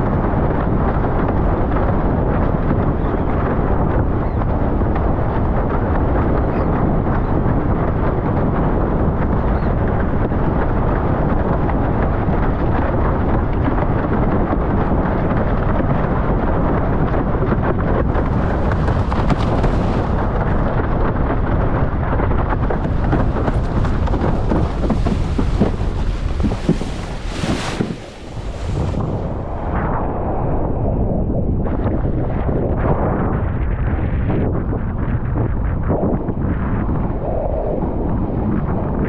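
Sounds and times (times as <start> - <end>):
board planing over choppy water: 0.0 - 39.0
wind buffeting microphone: 0.0 - 39.0.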